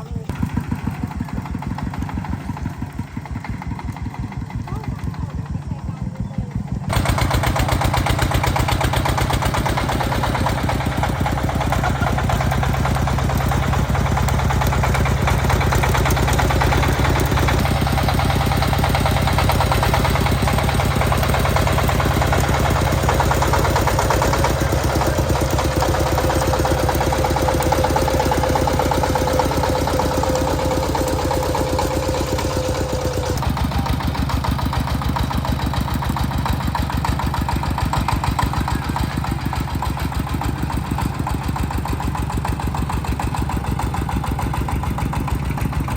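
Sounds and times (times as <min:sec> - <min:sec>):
tractor engine chugging: 0:00.0 - 0:45.9.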